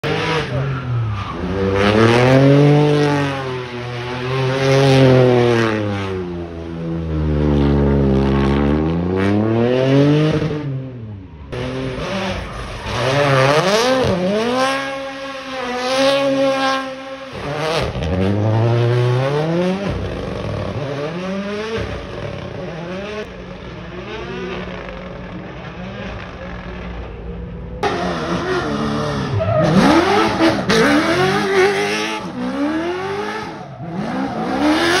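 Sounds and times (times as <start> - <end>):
rally car engines revving: 0.0 - 35.0.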